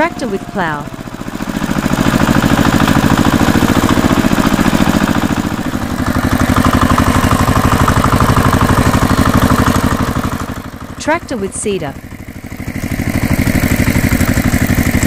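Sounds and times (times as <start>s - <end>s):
second tractor engine hum: 0.0s - 15.0s
tractor engine throbbing: 0.0s - 15.0s.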